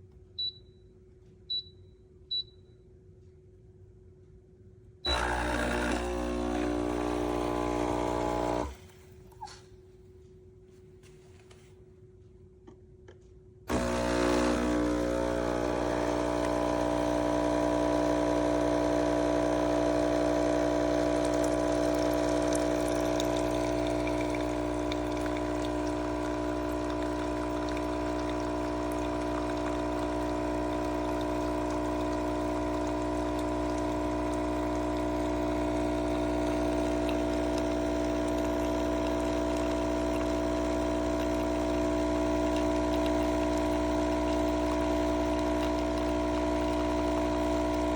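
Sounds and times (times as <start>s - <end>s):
coffee maker pump humming: 5.1s - 9.6s, 13.7s - 47.9s.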